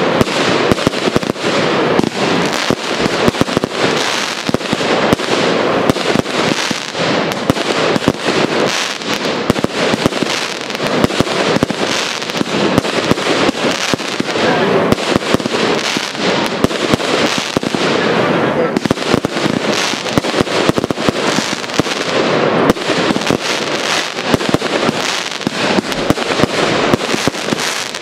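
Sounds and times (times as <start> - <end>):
fireworks bursting with bangs: 0.0 - 28.0
fireworks crackling hiss: 0.0 - 28.0.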